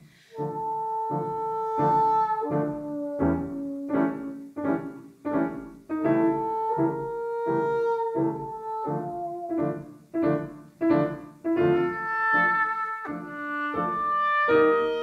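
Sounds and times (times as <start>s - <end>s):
woodwind: 0.0s - 15.0s
piano playing detached chords: 0.4s - 15.0s.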